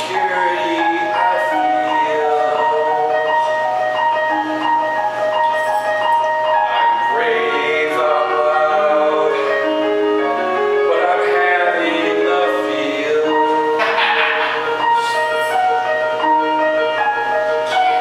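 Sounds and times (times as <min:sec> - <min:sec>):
electronic keyboard playing chords: 0:00.0 - 0:18.0.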